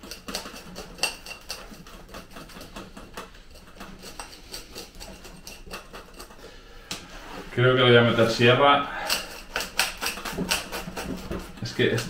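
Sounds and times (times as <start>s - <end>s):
hand tools knocking and scraping: 0.0s - 12.0s.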